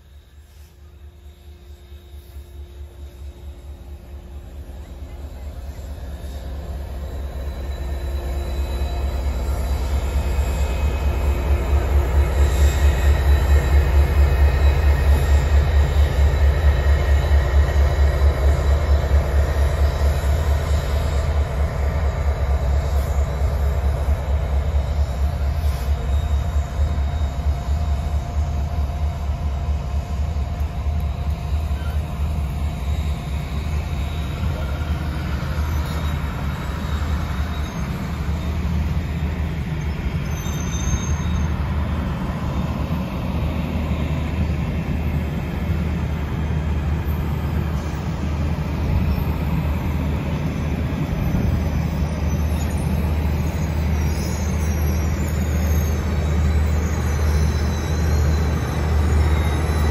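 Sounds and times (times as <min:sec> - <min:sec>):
steel wheels on rail: 0:00.0 - 0:59.9
train rumbling past: 0:00.0 - 0:59.9.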